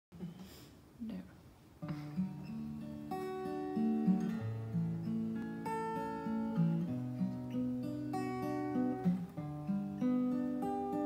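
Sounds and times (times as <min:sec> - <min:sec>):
acoustic guitar playing chords: 0:01.8 - 0:11.0.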